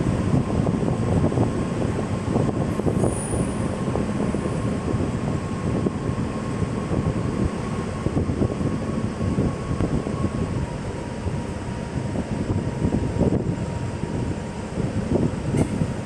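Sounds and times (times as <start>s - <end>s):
train rumbling and clattering: 0.0s - 16.0s.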